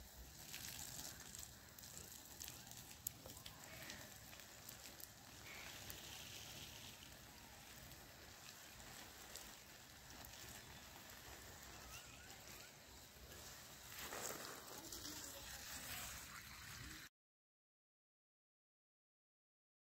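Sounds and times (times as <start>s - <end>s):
hose water spraying on plants: 0.0s - 17.1s.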